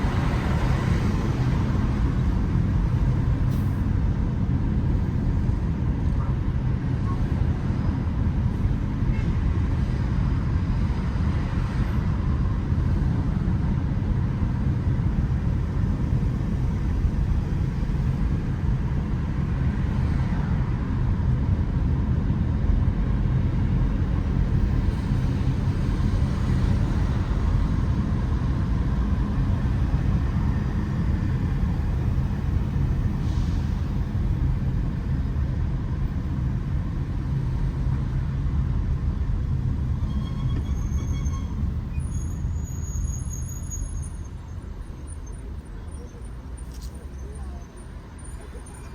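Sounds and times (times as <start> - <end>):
city traffic rumble: 0.0 - 48.9.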